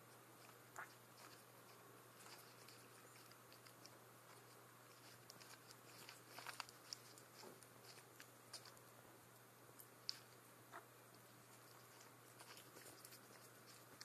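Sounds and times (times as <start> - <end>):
iguana chewing greens: 0.0 - 9.0, 9.6 - 14.0.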